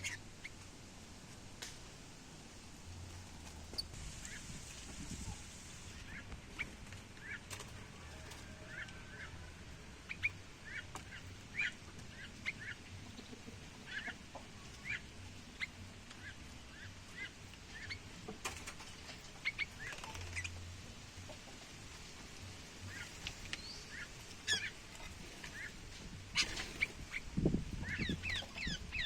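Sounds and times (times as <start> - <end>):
small birds chirping: 0.0 - 0.7, 3.5 - 21.6, 22.4 - 29.0.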